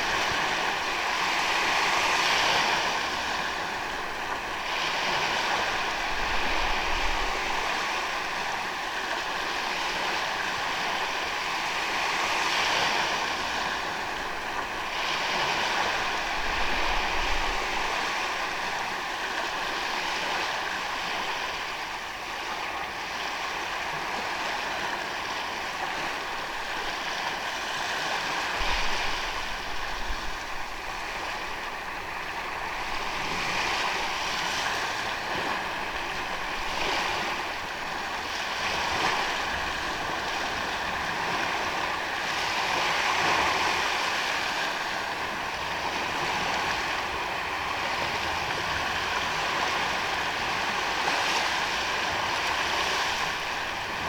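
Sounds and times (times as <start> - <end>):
ocean waves on sandy beach: 0.0 - 54.0.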